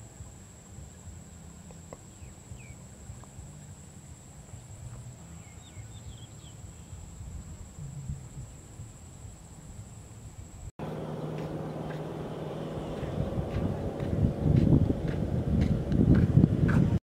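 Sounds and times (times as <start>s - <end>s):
low wind rumble: 0.0s - 17.0s.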